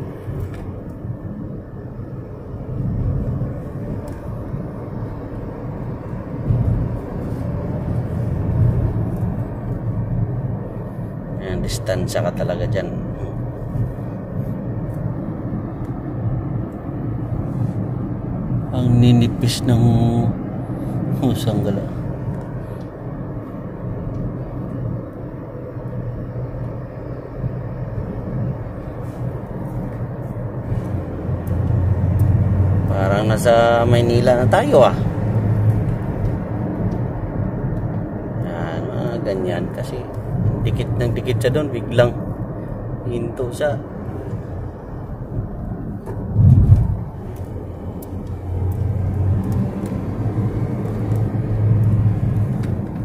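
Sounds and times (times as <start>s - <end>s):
car cabin road rumble: 0.0s - 53.0s.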